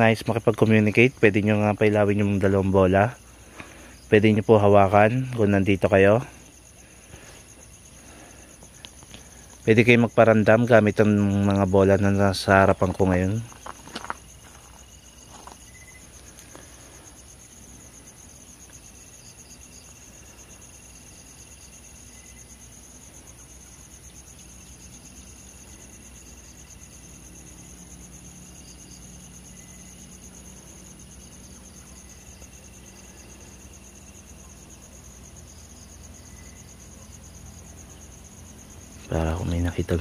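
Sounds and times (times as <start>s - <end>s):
crickets trilling: 0.0s - 40.0s.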